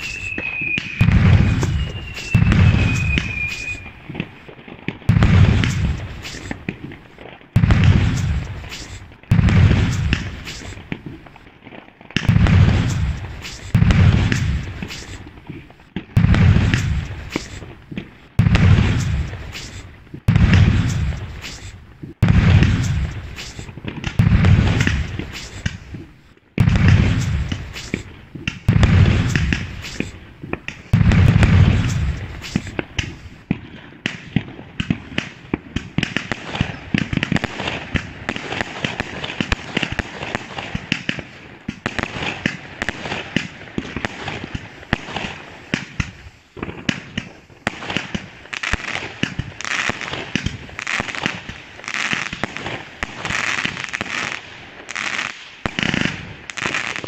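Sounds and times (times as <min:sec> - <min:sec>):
heavy firework booms: 0:00.0 - 0:07.0, 0:07.6 - 0:11.4, 0:12.2 - 0:48.3
firework pops and crackles: 0:00.0 - 0:57.0.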